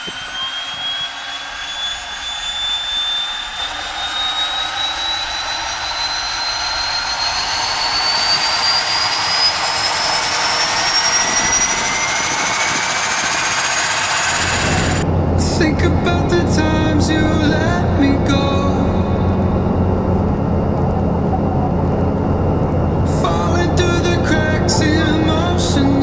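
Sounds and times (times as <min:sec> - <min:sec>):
turboprop turbine whine: 0:00.0 - 0:26.0.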